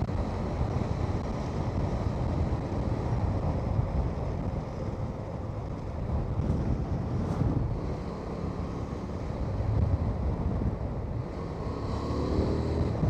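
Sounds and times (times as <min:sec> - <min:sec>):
motorcycle engine rumble: 0:00.0 - 0:13.0
wind buffeting microphone: 0:00.0 - 0:13.0.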